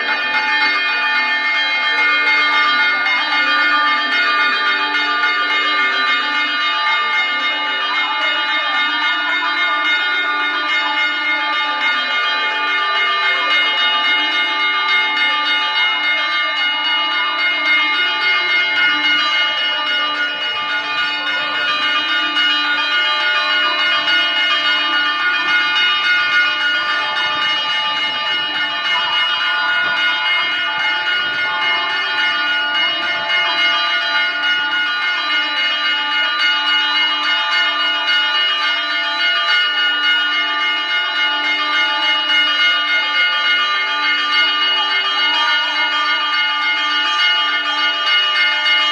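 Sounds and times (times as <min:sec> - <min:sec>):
church bells ringing: 0:00.0 - 0:48.9.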